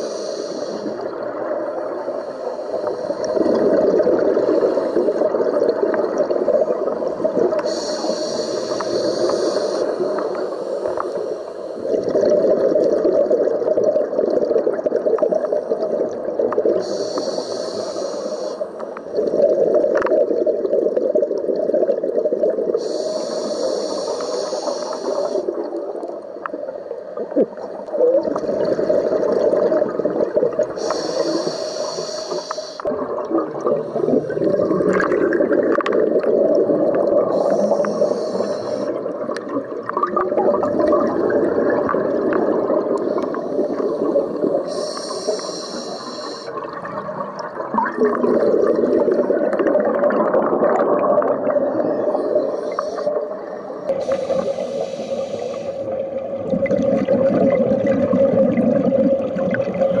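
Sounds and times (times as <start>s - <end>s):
hissy rushes of bubbles: 0.0s - 60.0s
underwater bubbling: 0.0s - 60.0s.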